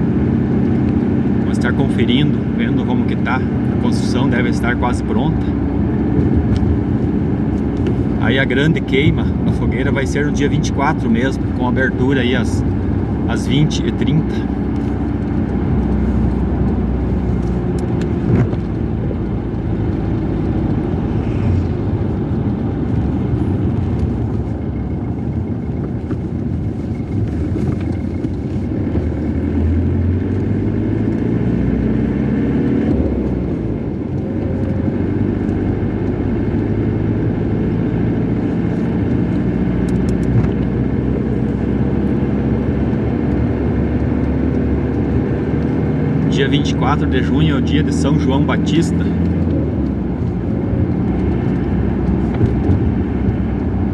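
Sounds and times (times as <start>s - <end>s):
car engine from inside cabin: 0.0s - 53.9s
road noise: 0.0s - 53.9s.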